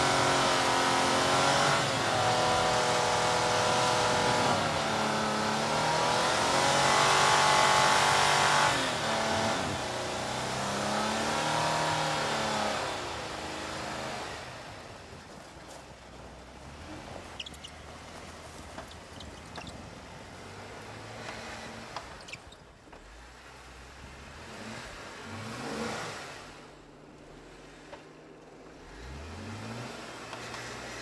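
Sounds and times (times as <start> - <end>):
car engine revving: 0.0 - 15.1, 15.9 - 31.0
tyres churning through snow: 0.0 - 31.0.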